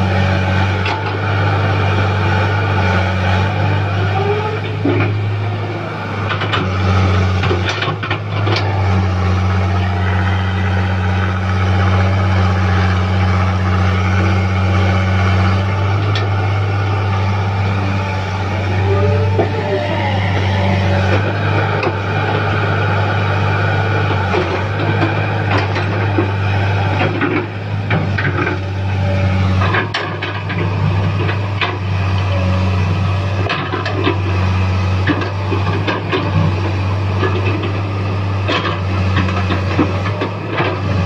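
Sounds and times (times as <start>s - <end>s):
diesel engine under load: 0.0s - 41.0s.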